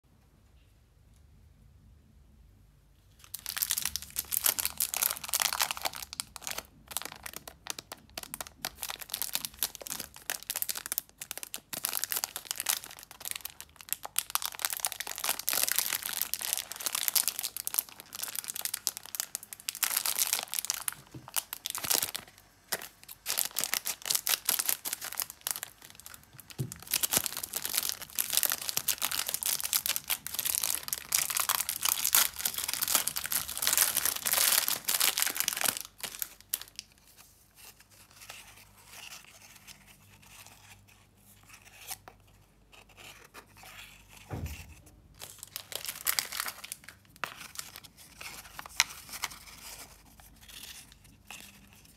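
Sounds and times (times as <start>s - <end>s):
plastic wrapper crinkling: 3.1s - 51.9s.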